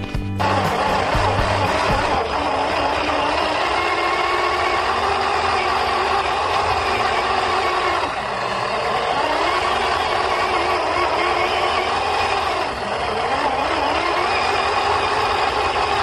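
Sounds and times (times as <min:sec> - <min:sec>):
electric motor and gears whine: 0:00.0 - 0:16.0.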